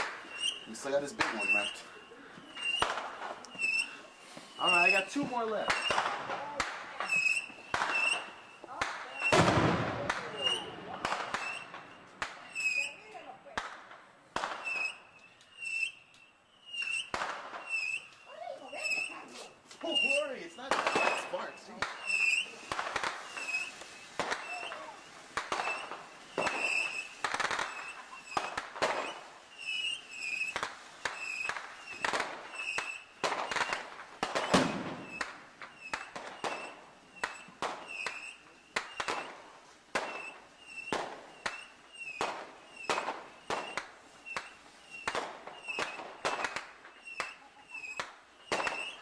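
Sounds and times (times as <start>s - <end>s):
firework bang: 0.0s - 16.1s, 16.7s - 49.0s
firework squeals: 0.0s - 49.0s
fireworks popping: 0.0s - 49.0s.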